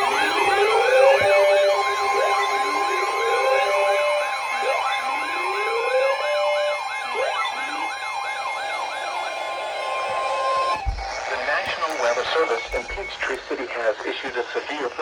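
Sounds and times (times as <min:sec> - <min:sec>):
fast yelping siren: 0:00.0 - 0:13.4
steady high tone: 0:00.0 - 0:13.7
wailing siren: 0:00.0 - 0:13.7.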